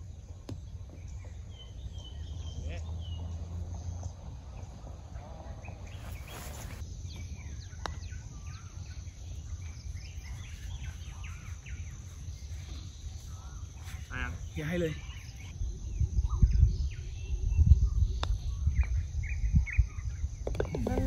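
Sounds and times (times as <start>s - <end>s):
birds chirping and whistling: 0.9s - 21.0s.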